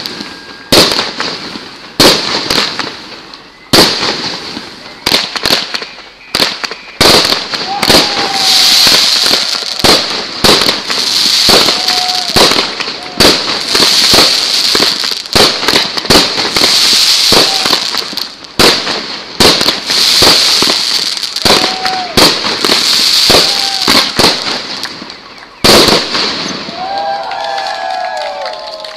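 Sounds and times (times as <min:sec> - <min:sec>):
fireworks bursting with sharp bangs: 0:00.0 - 0:27.3
crackling hiss of fireworks: 0:00.0 - 0:28.9.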